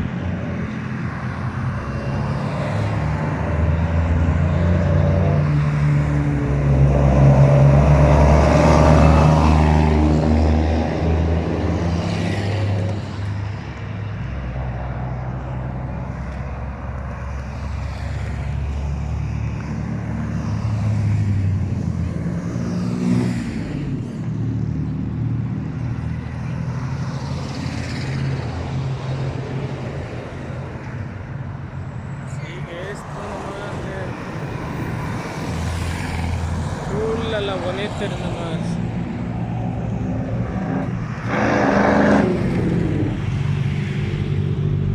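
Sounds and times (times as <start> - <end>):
truck engines passing: 0.0 - 44.9.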